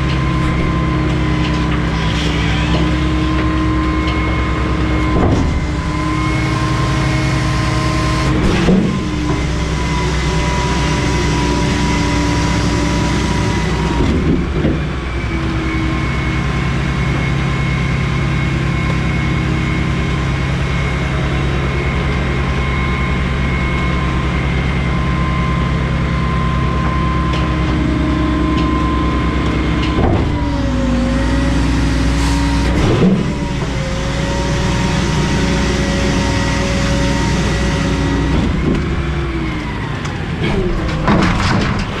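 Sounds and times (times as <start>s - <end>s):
hydraulic pump whine: 0.0s - 42.0s
truck engine running under load: 0.0s - 42.0s.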